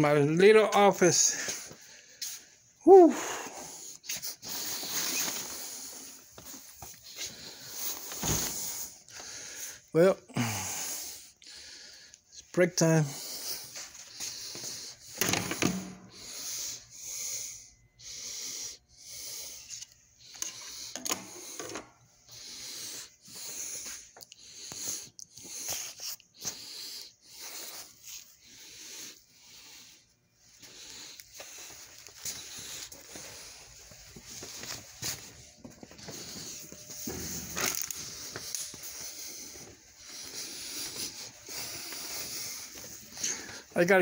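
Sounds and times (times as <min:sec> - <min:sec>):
person breathing hard: 0:01.1 - 0:44.0.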